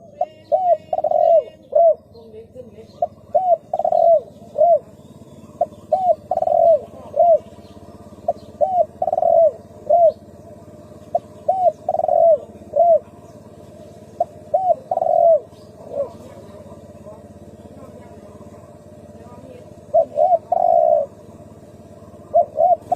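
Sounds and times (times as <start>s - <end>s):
dove cooing: 0.0s - 22.9s.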